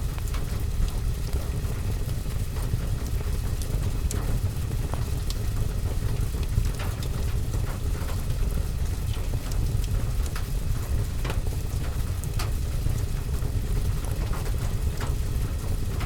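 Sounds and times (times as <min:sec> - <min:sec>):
crackling fireplace fire: 0:00.0 - 0:16.0
rain on window and roof: 0:00.0 - 0:16.0.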